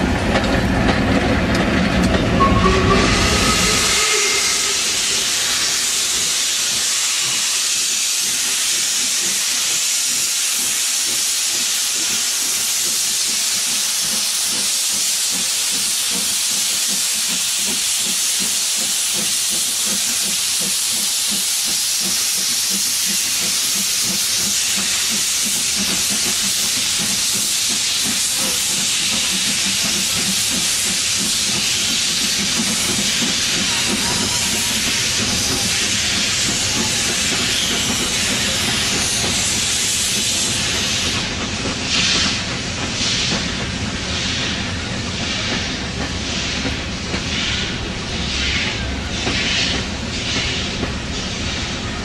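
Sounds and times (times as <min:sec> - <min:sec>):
steam hissing from locomotives: 0:02.5 - 0:52.0.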